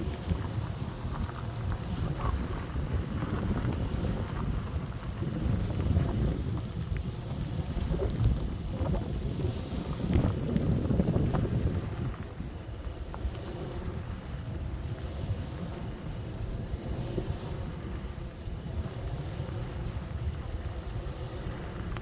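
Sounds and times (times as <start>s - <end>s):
faint ticks: 0.0s - 22.0s
wind gusting against microphone: 0.0s - 22.0s.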